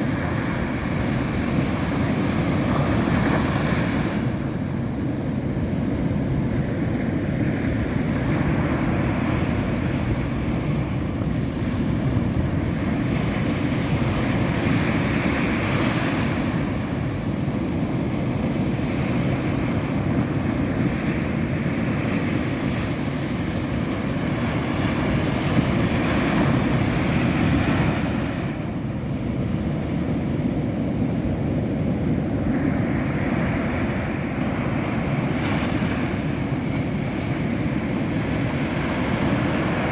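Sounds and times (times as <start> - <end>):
surf breaking on a beach: 0.0 - 39.9
wind rumbling on microphone: 0.0 - 39.9.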